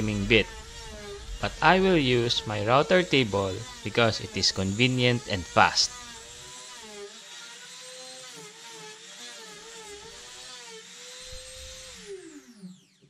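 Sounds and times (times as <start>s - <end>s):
router whining while cutting: 0.0s - 13.0s
router winding down: 0.0s - 13.0s.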